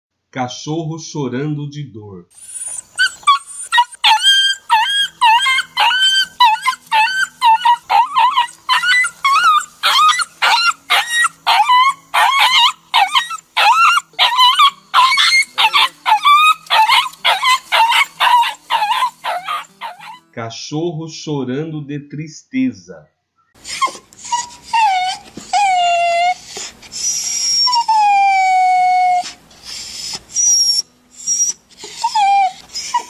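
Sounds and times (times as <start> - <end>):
dog yelping and whimpering: 2.4 - 20.3, 23.6 - 33.0.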